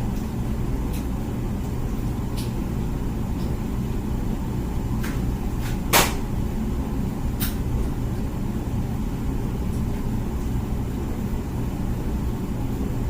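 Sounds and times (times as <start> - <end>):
dishwasher running: 0.0 - 13.0.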